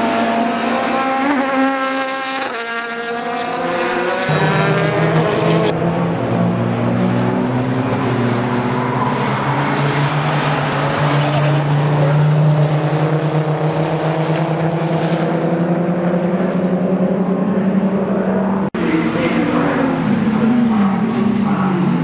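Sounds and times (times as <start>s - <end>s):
race car engines at high revs: 0.0s - 22.0s.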